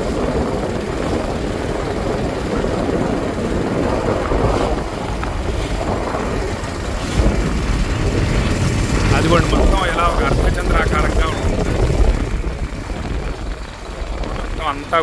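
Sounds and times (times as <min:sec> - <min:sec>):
motorboat engine running: 0:00.0 - 0:15.0
wind noise on microphone: 0:00.0 - 0:15.0.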